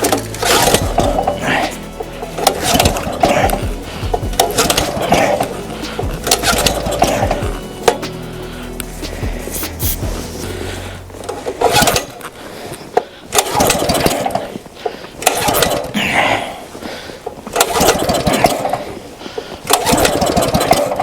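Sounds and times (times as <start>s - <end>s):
small engine pull-start cranking: 0.0s - 9.6s, 11.2s - 16.0s, 17.3s - 21.0s.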